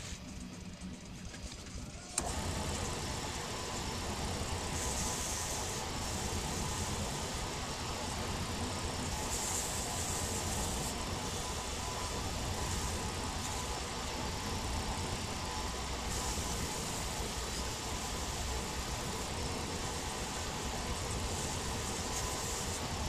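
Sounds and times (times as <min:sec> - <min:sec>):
high hiss: 0:02.2 - 0:23.0
wood lathe humming: 0:02.2 - 0:23.0.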